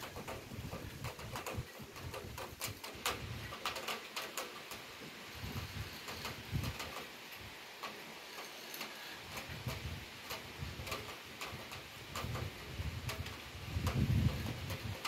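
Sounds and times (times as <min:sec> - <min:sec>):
rain hiss: 0:00.0 - 0:15.0
raindrops ticking on hard surface: 0:00.0 - 0:15.0.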